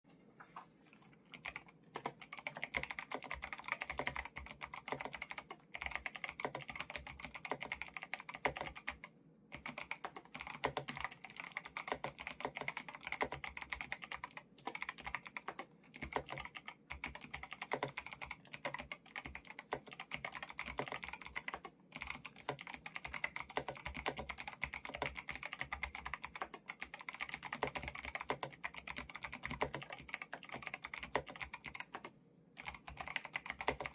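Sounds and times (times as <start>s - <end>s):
mechanical keyboard typing: 1.3s - 33.9s.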